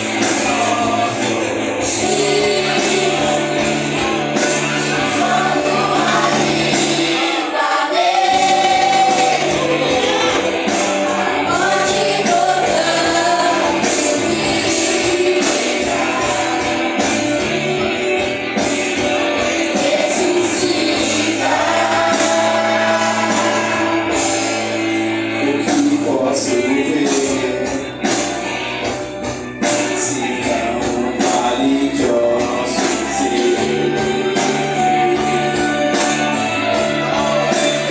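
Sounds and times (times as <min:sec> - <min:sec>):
band playing: 0:00.0 - 0:37.9
voices singing gospel song: 0:00.0 - 0:37.9.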